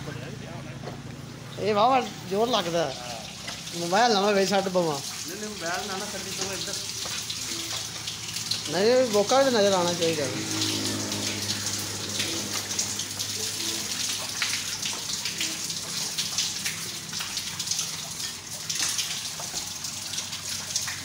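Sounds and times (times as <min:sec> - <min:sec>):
water dripping and splattering: 0:01.5 - 0:21.0
water splashing off bucket: 0:02.6 - 0:21.0.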